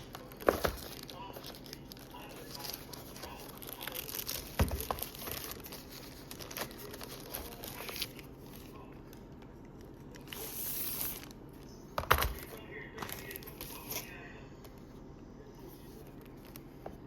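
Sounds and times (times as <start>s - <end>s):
plastic and paper crinkling: 0.0s - 14.2s.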